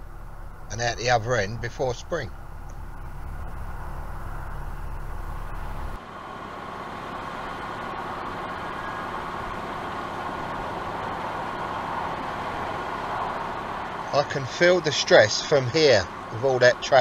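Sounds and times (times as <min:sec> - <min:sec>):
boat engine rumble: 0:00.0 - 0:17.0
road traffic rushing: 0:00.0 - 0:17.0.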